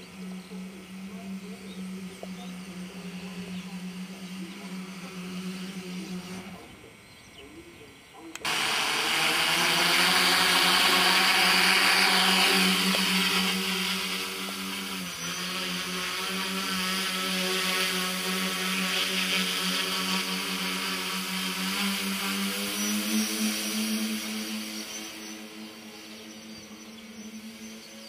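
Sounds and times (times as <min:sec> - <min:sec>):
drone motors and propellers whirring: 0:00.0 - 0:28.0.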